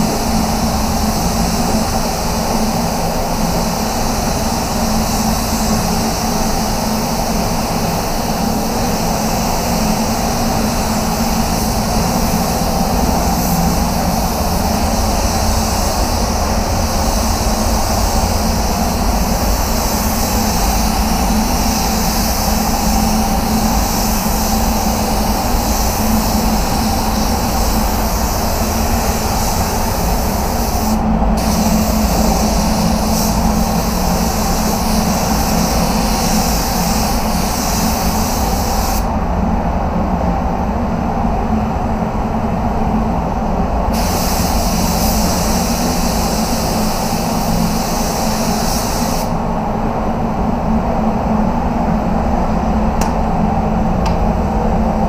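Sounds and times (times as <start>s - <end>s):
spray gun hissing: 0.0s - 39.2s, 43.9s - 49.5s
low machine drone: 0.0s - 43.9s, 49.4s - 55.0s.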